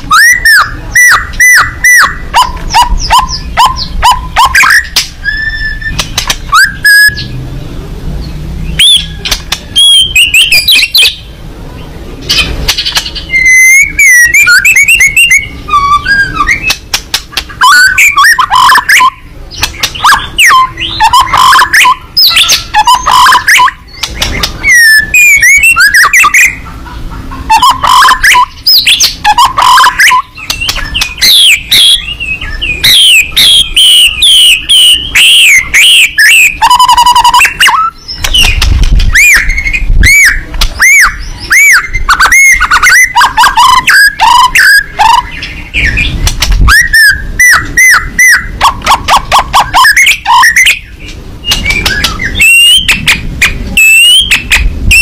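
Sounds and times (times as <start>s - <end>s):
bird singing whistles and trills: 0.0s - 7.4s, 8.2s - 26.8s, 27.4s - 55.0s.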